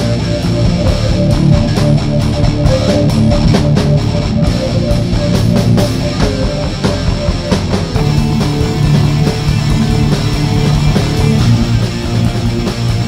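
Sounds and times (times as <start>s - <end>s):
heavy rock music: 0.0s - 13.0s.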